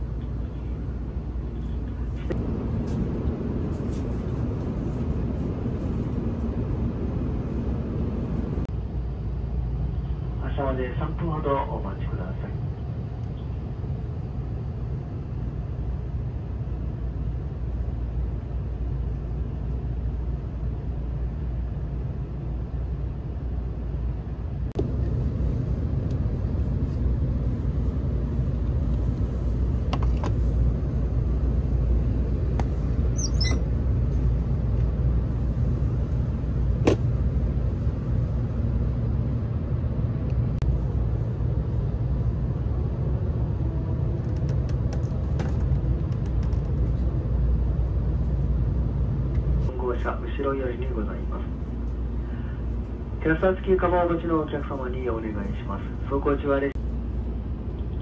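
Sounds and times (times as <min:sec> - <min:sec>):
train rumbling inside cabin: 0:00.0 - 0:58.0.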